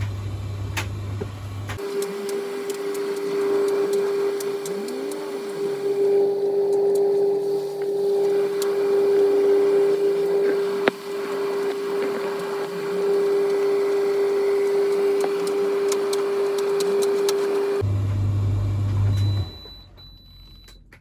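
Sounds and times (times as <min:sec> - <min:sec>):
tumble dryer humming: 0:00.0 - 0:20.1.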